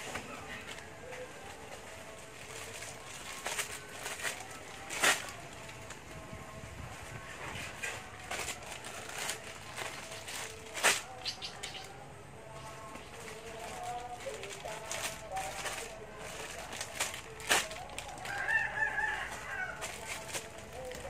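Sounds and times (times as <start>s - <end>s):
plastic bag rustling and crinkling: 0.0s - 21.0s.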